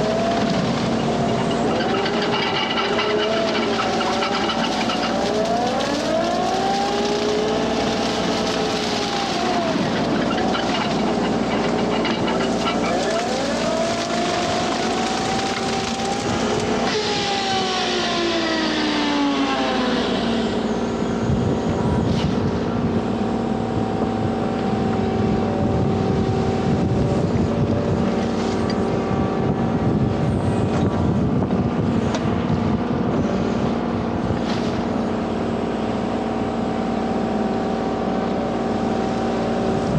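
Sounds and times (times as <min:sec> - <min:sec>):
excavator diesel engine running: 0:00.0 - 0:39.9
hydraulic brush cutter mowing: 0:00.0 - 0:39.9.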